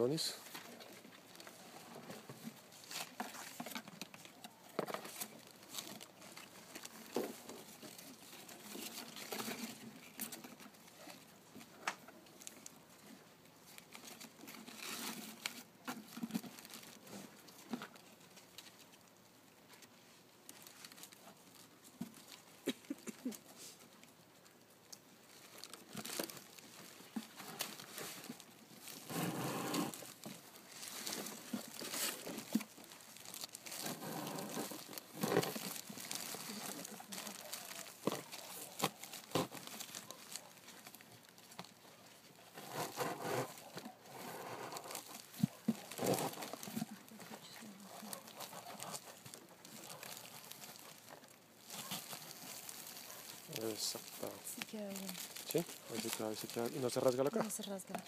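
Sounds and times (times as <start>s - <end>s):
plastic sleeves crinkling: 0.4s - 58.0s.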